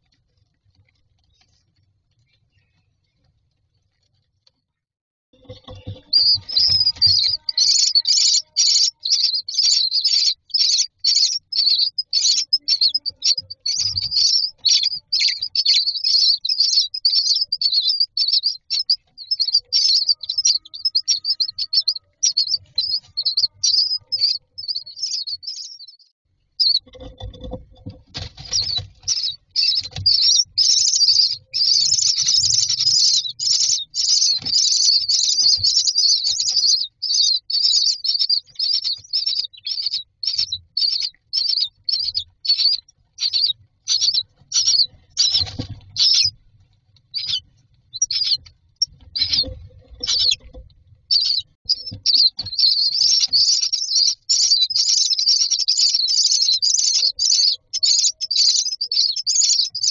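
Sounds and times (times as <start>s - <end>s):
nestlings begging calls: 5.8s - 26.0s, 28.3s - 46.3s, 47.1s - 50.4s, 51.1s - 59.9s.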